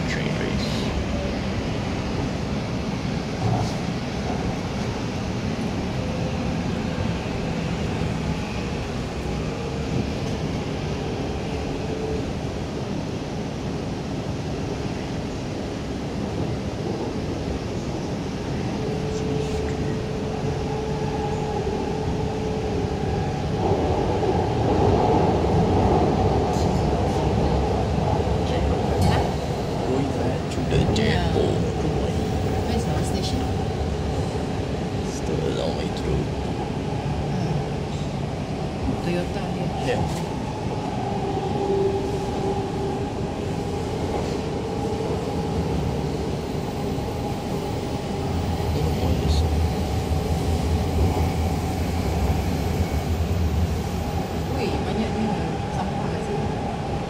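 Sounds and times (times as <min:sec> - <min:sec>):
train rumbling and humming: 0:00.0 - 0:57.0
train whine: 0:00.0 - 0:57.0.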